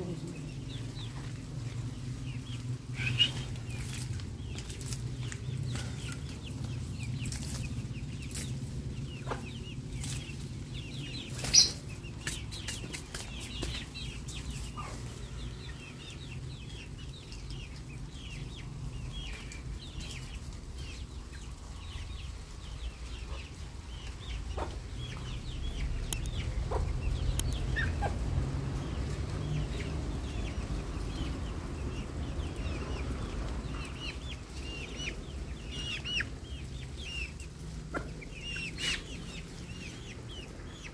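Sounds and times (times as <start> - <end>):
chickens clucking: 0.0 - 40.9
chicks peeping: 0.0 - 40.9.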